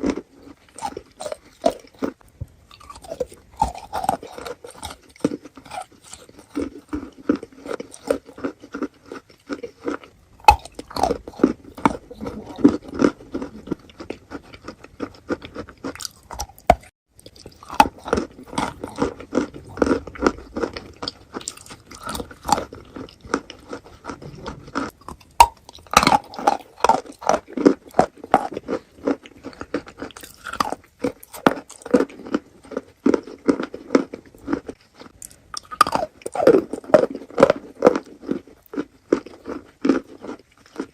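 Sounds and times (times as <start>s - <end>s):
wet crunching chewing: 0.0s - 40.9s.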